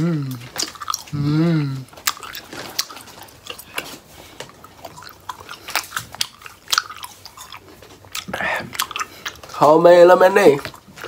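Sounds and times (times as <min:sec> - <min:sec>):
person chewing with mouth smacks: 0:00.0 - 0:11.0.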